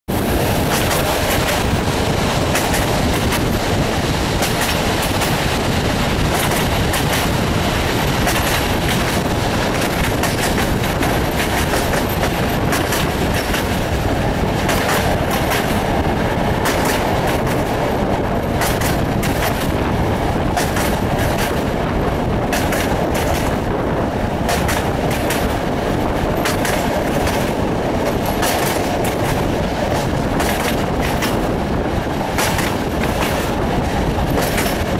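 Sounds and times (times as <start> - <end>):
train rumble and rushing air: 0.0 - 34.9
train wheels clicking over rails: 0.1 - 34.9.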